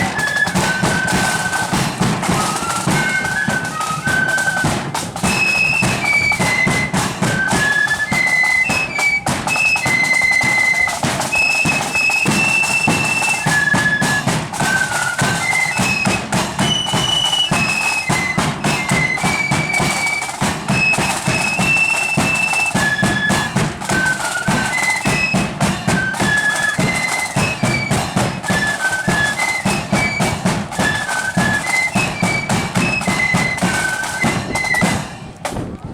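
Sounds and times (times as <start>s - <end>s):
flute melody: 0.0s - 35.9s
snare and bass drums: 0.0s - 35.9s.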